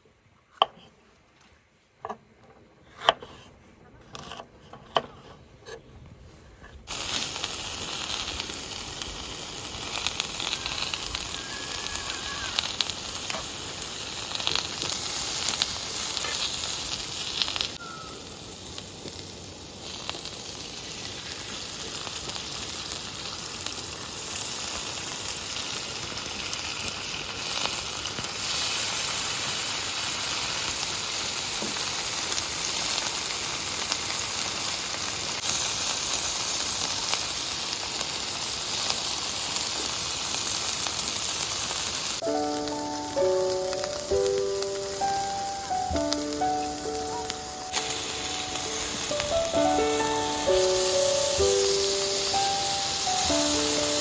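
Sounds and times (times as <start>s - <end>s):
food sizzling in a pan: 6.9s - 54.0s.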